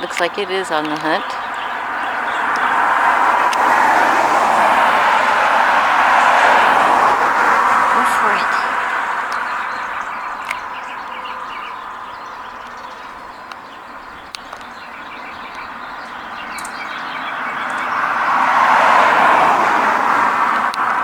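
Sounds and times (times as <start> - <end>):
passing traffic: 0.0 - 21.0
vehicle going by: 0.0 - 21.0.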